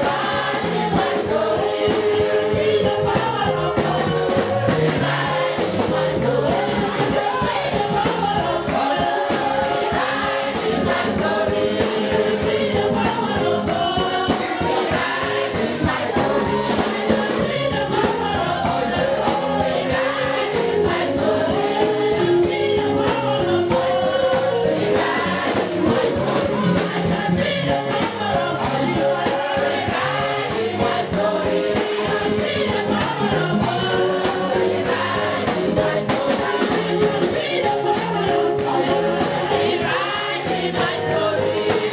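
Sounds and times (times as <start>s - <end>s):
choir and congregation singing: 0.0s - 41.9s
instrumental accompaniment with beat: 0.0s - 41.9s.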